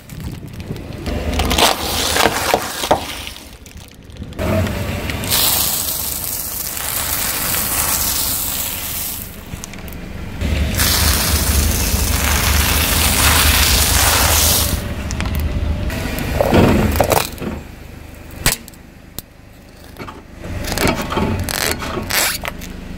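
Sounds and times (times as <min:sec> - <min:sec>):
car tyre crushing brittle discs: 0:00.0 - 0:22.9.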